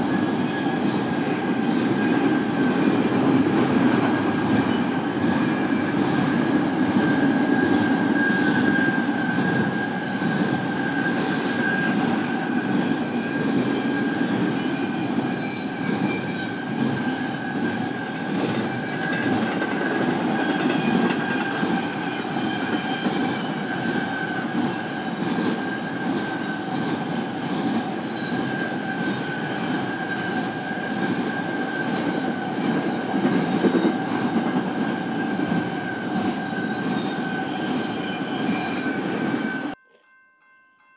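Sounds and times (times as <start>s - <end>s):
freight train rumbling past: 0.0s - 39.8s.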